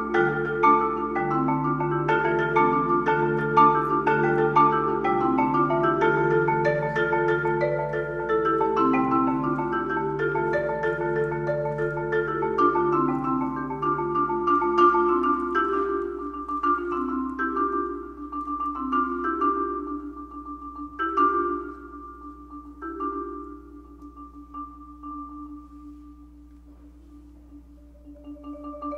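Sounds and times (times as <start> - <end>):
solo marimba: 0.0 - 28.9.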